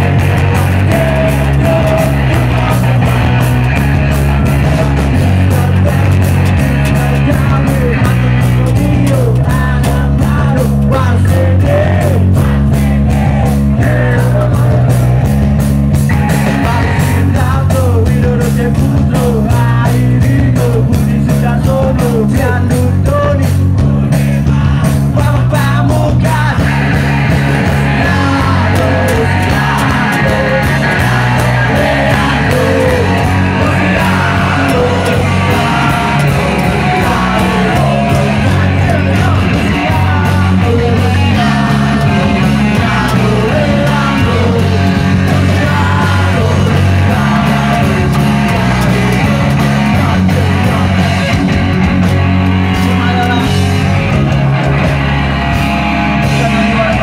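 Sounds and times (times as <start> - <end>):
man singing lead: 0.0 - 54.7, 55.9 - 57.0
live rock band playing: 0.0 - 57.0.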